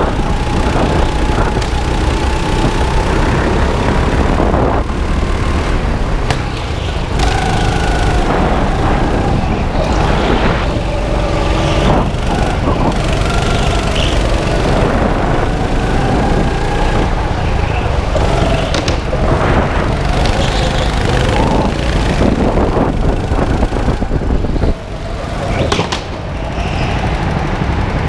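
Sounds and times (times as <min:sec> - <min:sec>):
go-kart engine running: 0:00.0 - 0:28.0
kart rattling on track: 0:00.0 - 0:28.0.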